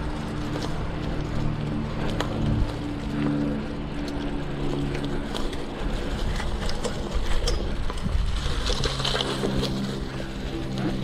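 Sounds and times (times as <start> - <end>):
bicycle riding rumble: 0.0 - 11.0
bike rattles and clicks: 0.0 - 11.0.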